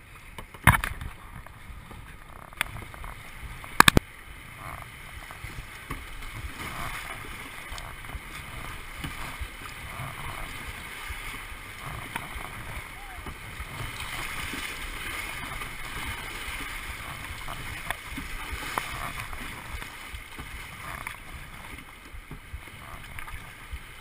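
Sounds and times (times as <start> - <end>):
river rapids rushing: 2.2 - 21.9.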